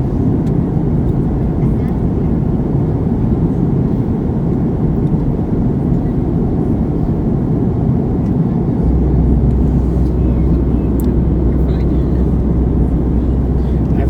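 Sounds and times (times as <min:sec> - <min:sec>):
deep steady rumble: 0:00.0 - 0:14.0
jet engine and airflow rush: 0:00.0 - 0:14.0.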